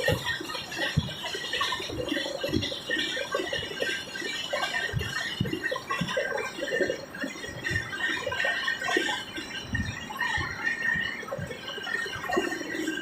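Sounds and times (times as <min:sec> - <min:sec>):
train carriage rattling: 0:00.0 - 0:13.0.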